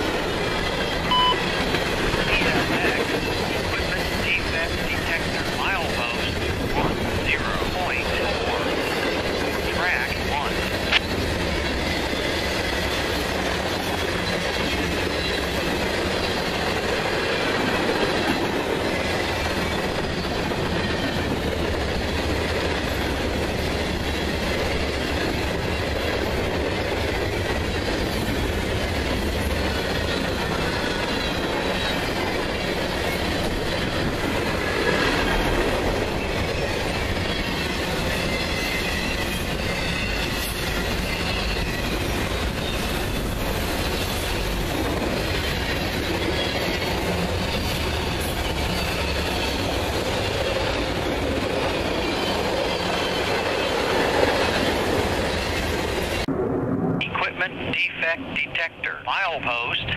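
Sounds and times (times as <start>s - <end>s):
high squeal of train wheels: 0.0s - 6.2s, 7.8s - 17.9s, 18.8s - 56.3s
freight train rolling by: 0.0s - 59.9s.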